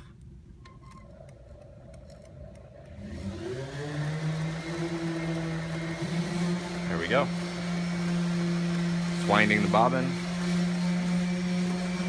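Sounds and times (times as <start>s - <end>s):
sewing machine motor humming: 0.8s - 12.0s.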